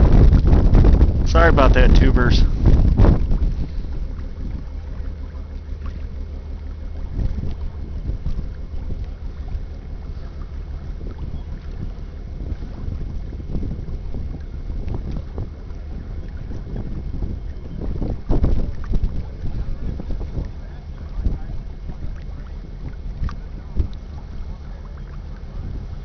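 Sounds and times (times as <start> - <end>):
ship engines droning: 0.0 - 26.0
wind rumbling on microphone: 0.0 - 26.0.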